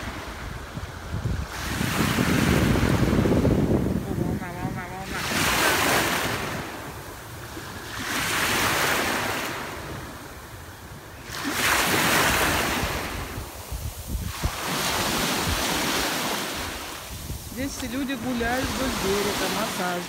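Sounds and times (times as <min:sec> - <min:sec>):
small waves washing on shore: 0:00.0 - 0:20.0
wind rumbling on microphone: 0:00.0 - 0:20.0.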